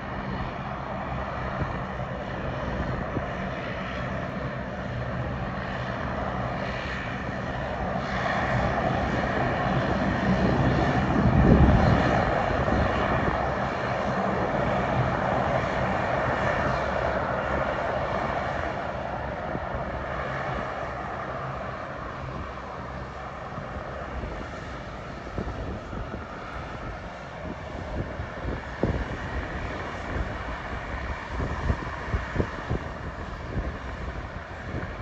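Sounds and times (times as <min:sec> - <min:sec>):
jet airliner engines passing: 0:00.0 - 0:35.0.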